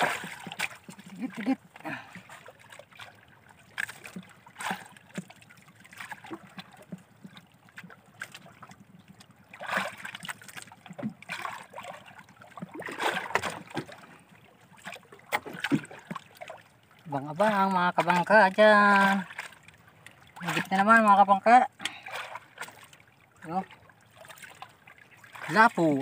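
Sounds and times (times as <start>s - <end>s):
water lapping against boat: 0.0s - 26.0s.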